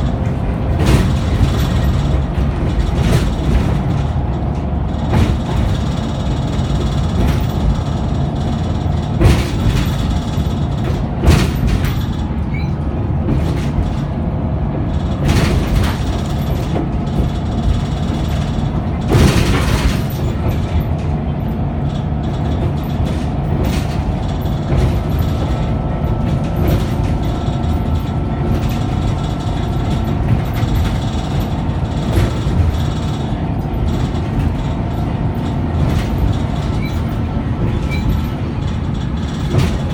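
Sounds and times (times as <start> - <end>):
bus body knocks and rattles: 0.0 - 39.9
diesel bus engine drone: 0.0 - 39.9.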